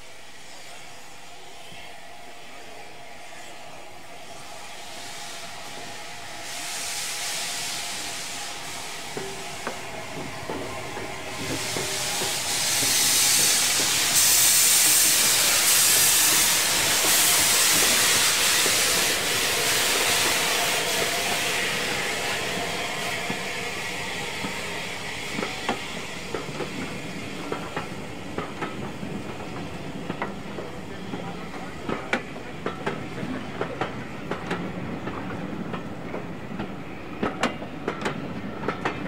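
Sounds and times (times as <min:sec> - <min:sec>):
steam locomotive hissing: 0:00.0 - 0:39.0.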